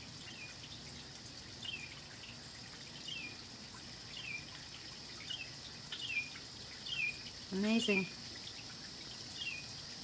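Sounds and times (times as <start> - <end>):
songbird chirps: 0.0 - 10.0
steady high hiss: 0.0 - 10.0.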